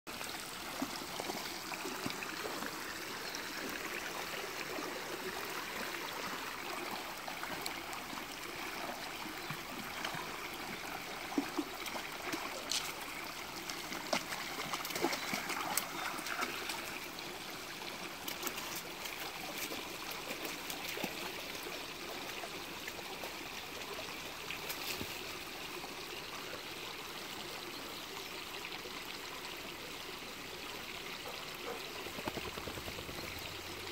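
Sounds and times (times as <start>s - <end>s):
creek trickling: 0.1s - 33.9s.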